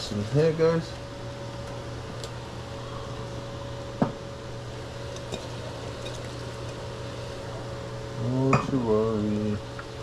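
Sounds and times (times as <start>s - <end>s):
fan humming: 0.0s - 10.0s.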